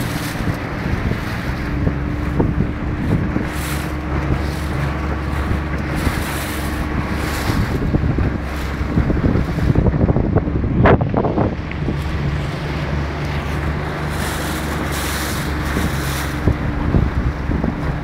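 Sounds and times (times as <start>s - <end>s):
sea waves breaking and splashing: 0.0s - 18.0s
wind buffeting microphone: 0.0s - 18.0s.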